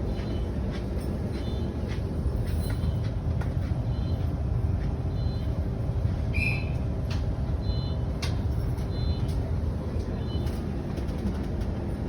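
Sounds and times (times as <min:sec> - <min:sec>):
train rumbling and humming: 0:00.0 - 0:12.0.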